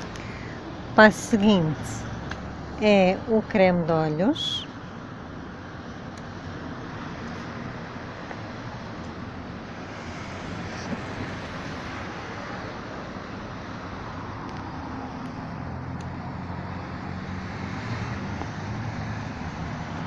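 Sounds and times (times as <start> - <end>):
low engine hum: 0.0 - 20.0
road traffic noise: 0.0 - 20.0.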